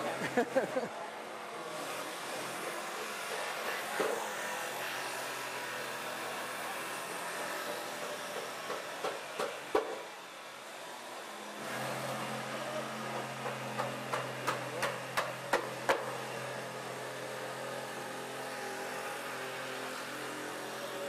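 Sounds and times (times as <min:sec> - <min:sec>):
jigsaw cutting wood: 0:01.6 - 0:21.0.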